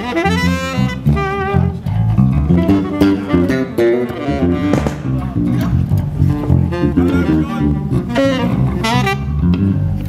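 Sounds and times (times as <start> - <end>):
live band playing: 0.0 - 9.9
electric bass guitar notes: 0.0 - 10.0.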